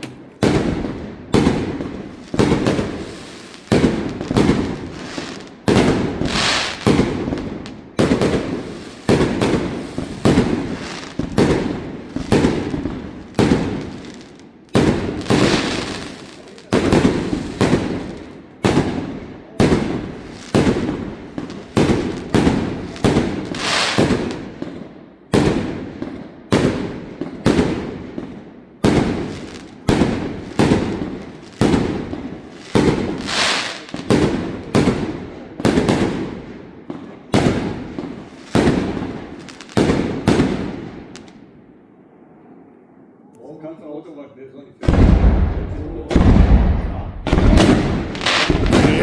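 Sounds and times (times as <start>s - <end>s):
fireworks bursting: 0.0s - 41.4s, 44.8s - 49.0s.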